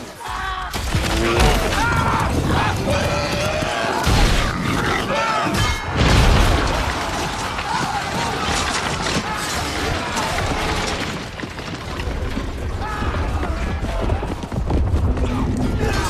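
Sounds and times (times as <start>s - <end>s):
people shouting: 0.0s - 11.2s, 12.7s - 14.6s, 15.2s - 16.0s.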